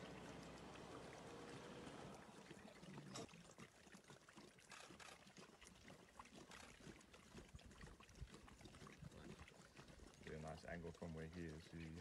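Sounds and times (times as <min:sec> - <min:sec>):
lions lapping water: 0:00.0 - 0:12.0.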